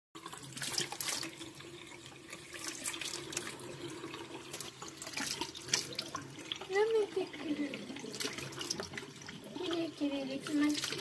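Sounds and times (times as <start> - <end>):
tap water running into sink: 0.2 - 11.0.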